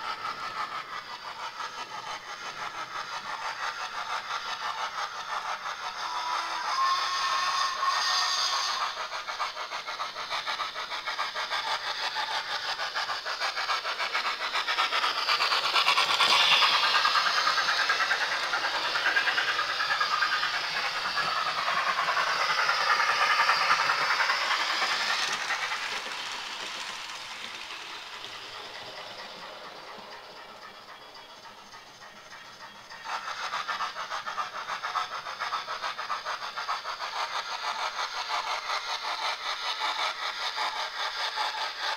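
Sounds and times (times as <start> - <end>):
steam hiss: 0.0 - 41.9
steam locomotive chuffing: 0.0 - 41.9.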